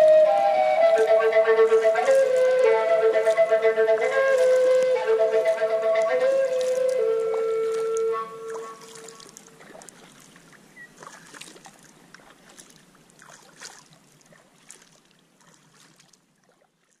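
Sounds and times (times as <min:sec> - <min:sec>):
water splashes and drips: 0:00.0 - 0:17.0.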